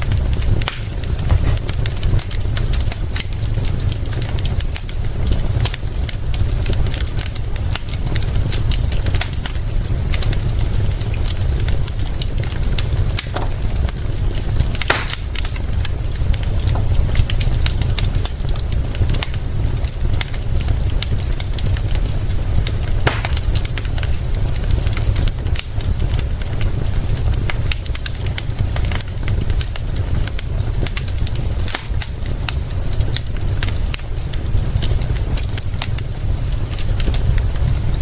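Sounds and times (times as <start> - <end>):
rain hissing: 0.0 - 38.0
wood fire crackling and popping: 0.0 - 38.0.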